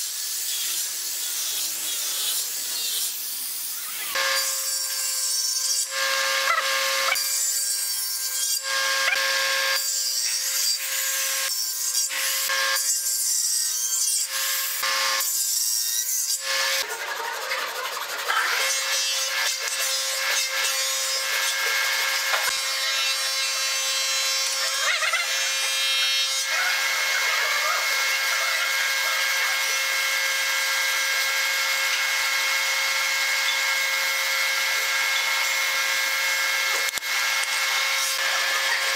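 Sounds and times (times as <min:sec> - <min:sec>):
hand saw cutting wood: 0:00.0 - 0:38.9
table saw cutting wood: 0:00.0 - 0:38.9.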